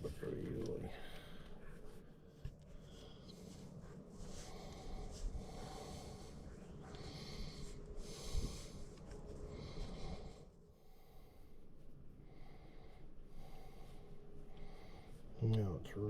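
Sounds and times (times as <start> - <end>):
man breathing close to microphone: 0.9 - 15.4.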